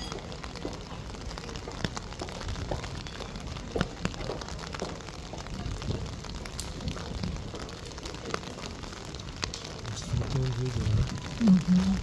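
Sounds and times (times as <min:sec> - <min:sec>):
high-heeled footsteps on wet street: 0:00.0 - 0:12.0
rain hissing: 0:00.0 - 0:12.0.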